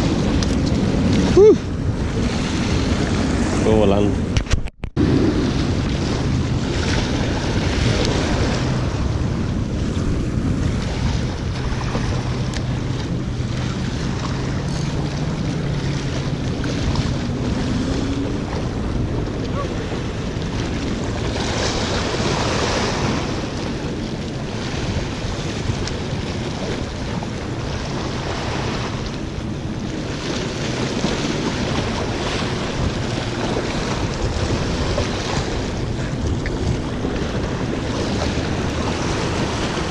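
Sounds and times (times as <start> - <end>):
waves breaking against rocks: 0.0 - 39.9
wind buffeting microphone: 0.0 - 39.9.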